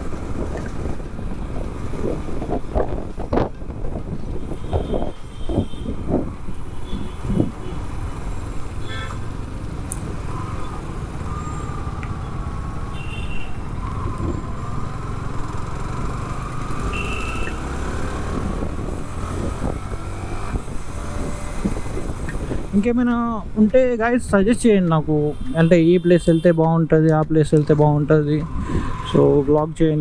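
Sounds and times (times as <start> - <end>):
motorcycle engine and wind rumble: 0.0 - 30.0.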